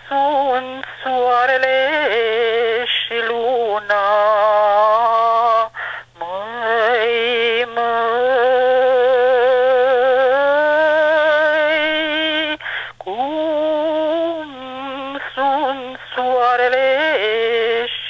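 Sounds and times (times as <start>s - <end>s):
person singing unaccompanied folk song: 0.0s - 18.0s.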